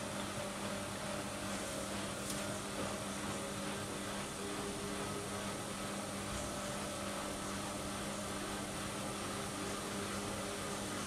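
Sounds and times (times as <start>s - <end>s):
washing machines humming: 0.0s - 11.0s.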